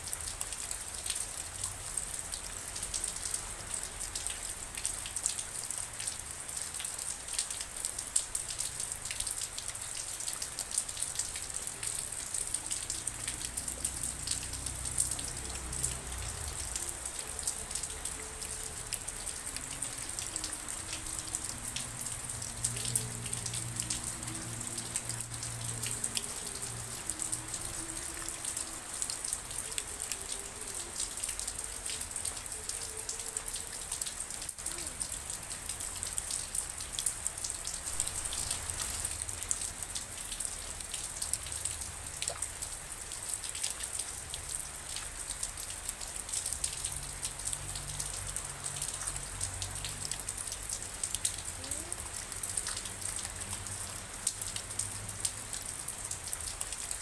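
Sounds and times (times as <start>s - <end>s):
raindrops striking close by: 0.0s - 57.0s
steady rain hiss: 0.0s - 57.0s.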